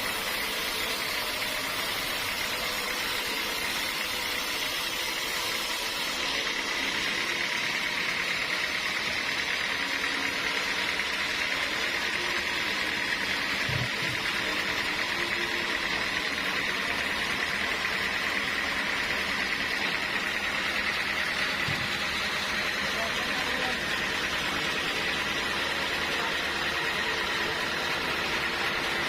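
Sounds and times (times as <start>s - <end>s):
sawmill machinery running: 0.0s - 29.0s.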